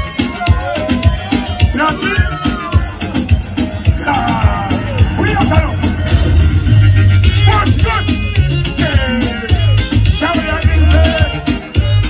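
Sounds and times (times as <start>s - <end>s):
loud dance music: 0.0s - 12.0s
steady bass beat: 1.0s - 12.0s.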